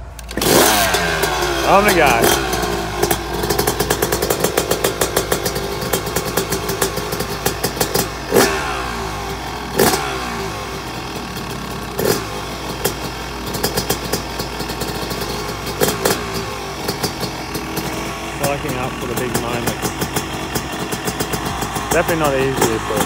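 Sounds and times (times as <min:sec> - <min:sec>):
motorcycle engine rattling: 0:00.0 - 0:23.0.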